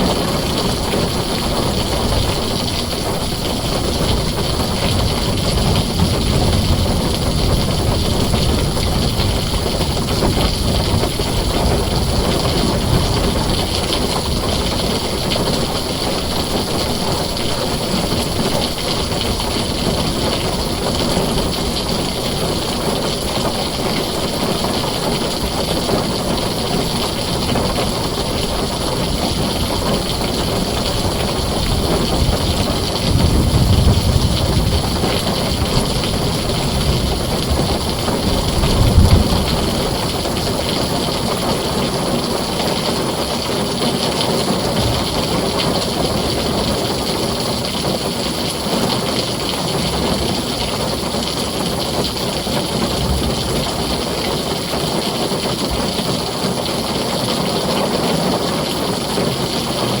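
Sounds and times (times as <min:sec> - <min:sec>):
thunder rumbling: 0:00.0 - 0:56.6
heavy rain on a tin roof: 0:00.0 - 1:00.0.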